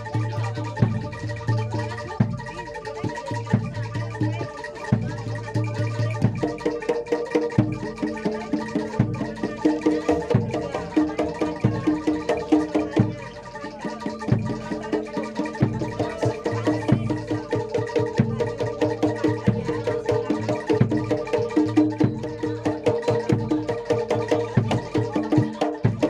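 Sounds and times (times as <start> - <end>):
struck metallophones ringing: 0.0 - 26.0.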